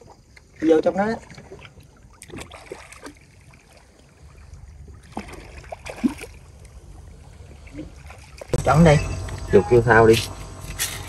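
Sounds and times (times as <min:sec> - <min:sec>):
seawater lapping among rocks: 0:00.0 - 0:08.9.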